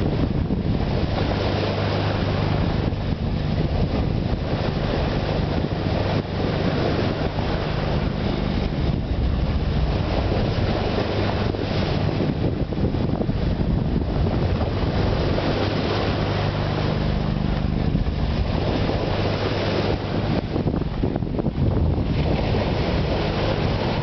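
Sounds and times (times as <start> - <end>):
sea water rushing: 0.0 - 24.0
wind buffeting microphone: 0.0 - 24.0.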